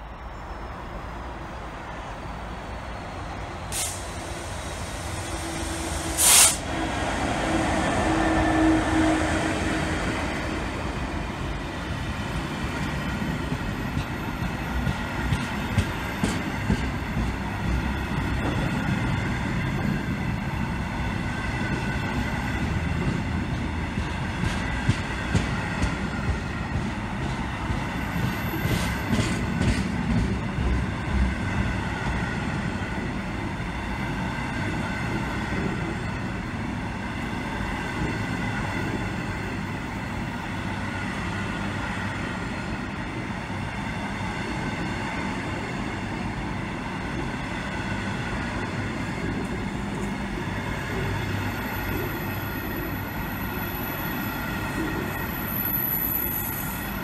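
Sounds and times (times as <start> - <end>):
diesel locomotive engine passing: 0.0 - 57.0.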